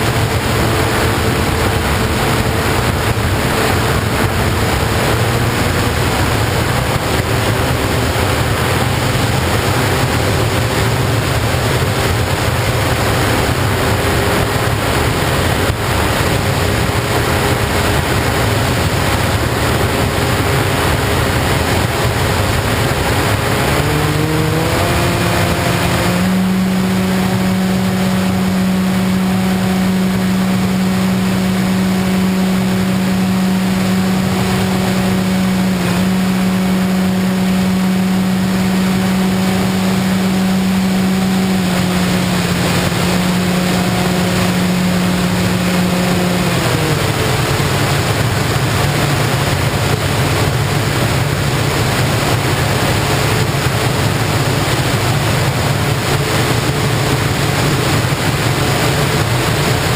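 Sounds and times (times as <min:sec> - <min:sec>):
model plane motor and propeller: 0:00.0 - 0:59.9
rushing air: 0:00.0 - 0:59.9.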